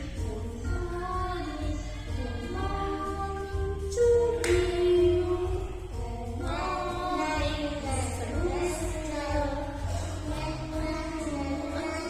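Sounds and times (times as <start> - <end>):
backing music: 0.0 - 12.0.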